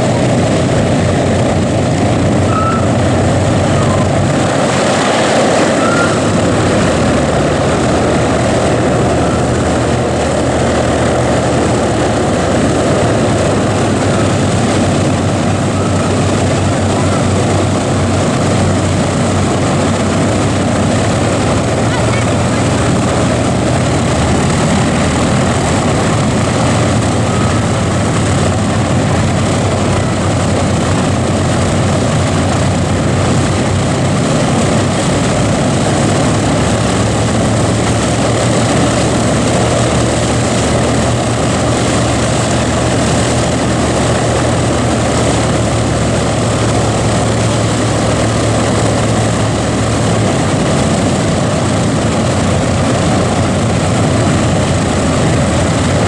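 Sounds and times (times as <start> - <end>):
radial aircraft engines droning: 0.0 - 56.0.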